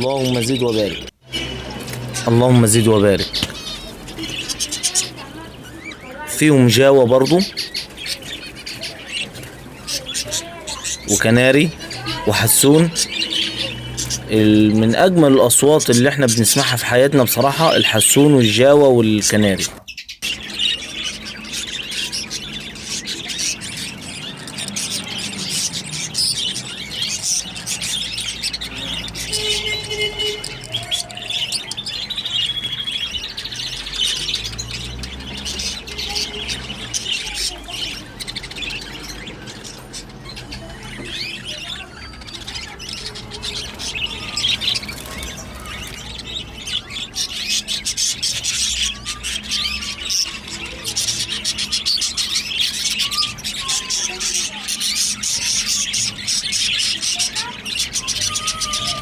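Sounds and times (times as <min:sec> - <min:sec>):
flock of birds chirping: 0:00.0 - 0:59.0.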